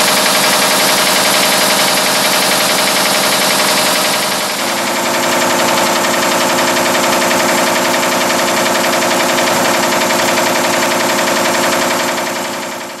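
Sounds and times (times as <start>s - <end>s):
nail making machine clatter: 0.0s - 13.0s.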